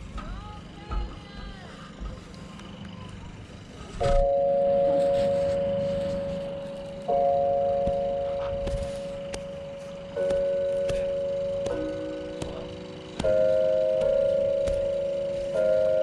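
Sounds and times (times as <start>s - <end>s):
marching band sustained chords: 2.0s - 16.0s.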